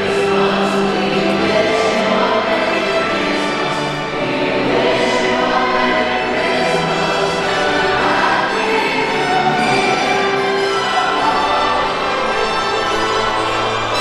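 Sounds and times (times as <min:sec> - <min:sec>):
choir singing held notes: 0:00.0 - 0:14.0
orchestral accompaniment: 0:00.0 - 0:14.0.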